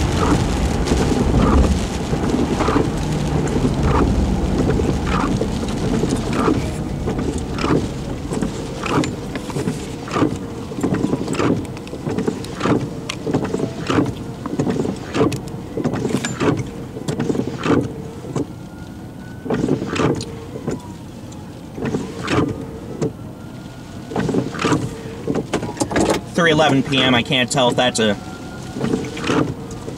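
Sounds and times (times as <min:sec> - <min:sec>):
engine humming: 0:00.0 - 0:29.9
wind-driven rain on vehicle: 0:00.0 - 0:29.9.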